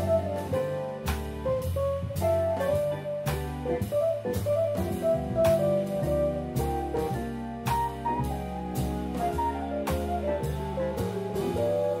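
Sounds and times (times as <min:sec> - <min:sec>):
drum kit: 0:00.0 - 0:12.0
moving bass line: 0:00.0 - 0:12.0
sharp drum and cymbal accent: 0:00.0 - 0:12.0.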